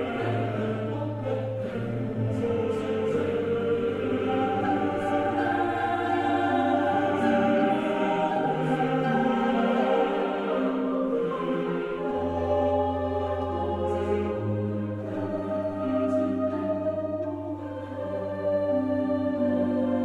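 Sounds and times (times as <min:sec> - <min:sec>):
slow choral music: 0:00.0 - 0:20.0.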